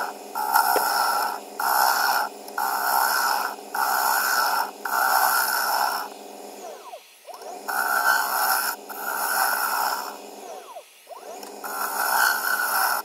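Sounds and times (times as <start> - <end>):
gouge cutting wood on a lathe: 0.0 - 6.4, 7.4 - 13.0.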